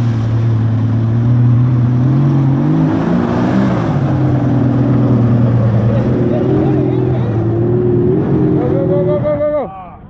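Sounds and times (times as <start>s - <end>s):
engine working under load: 0.0s - 9.5s.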